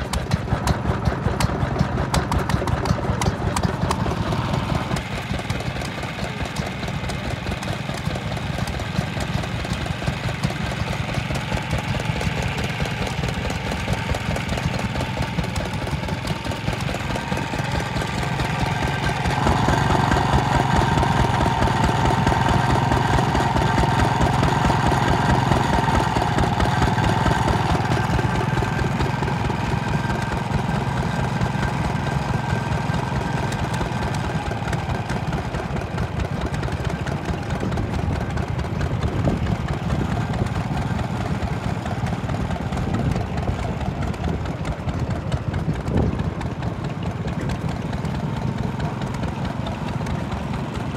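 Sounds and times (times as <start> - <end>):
stationary engines running: 0.0 - 50.9.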